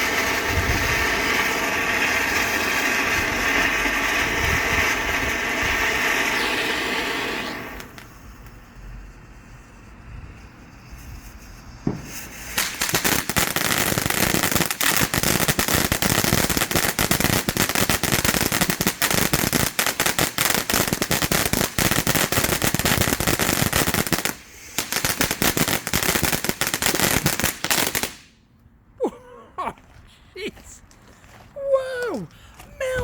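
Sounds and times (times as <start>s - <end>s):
firework fountain crackling: 0.0s - 28.4s, 31.6s - 33.0s.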